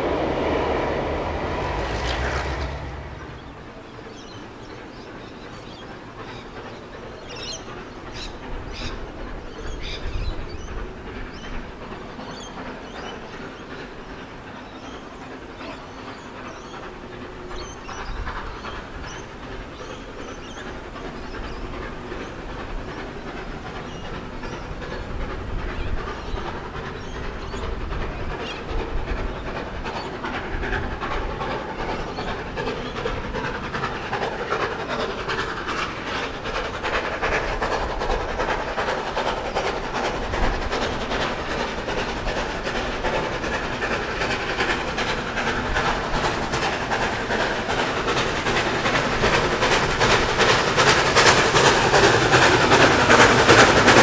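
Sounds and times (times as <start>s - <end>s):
steam train wheels clattering: 0.0s - 54.0s.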